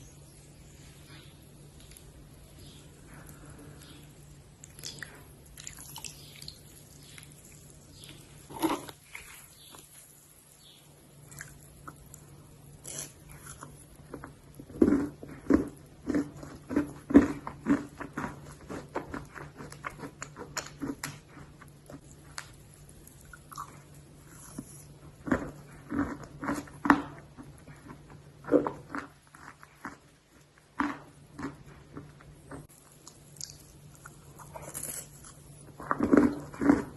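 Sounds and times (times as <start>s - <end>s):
crunching of dry clay being eaten: 1.8s - 36.9s.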